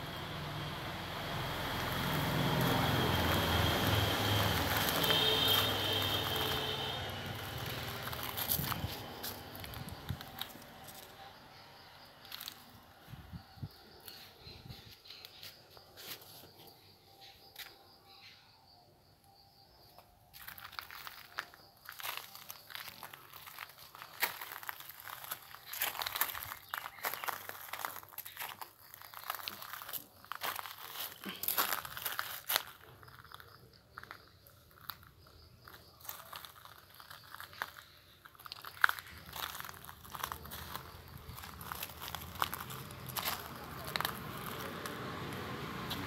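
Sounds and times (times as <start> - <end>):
footsteps crunching on gravel: 1.1 - 11.6, 12.2 - 13.4, 20.3 - 46.0.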